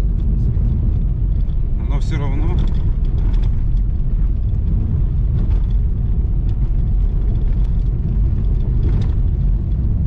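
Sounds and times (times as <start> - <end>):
car knocks and rattles: 0.0 - 10.0.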